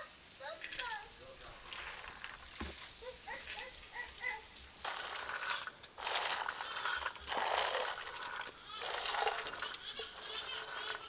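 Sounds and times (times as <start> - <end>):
chickpeas rattling into a pot: 0.6 - 3.7, 4.8 - 11.0.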